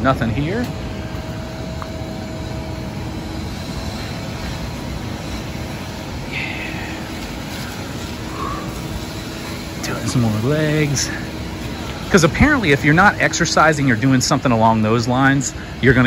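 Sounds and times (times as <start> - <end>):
faint steady hum: 0.0 - 16.0
rushing outdoor background noise: 0.0 - 16.0.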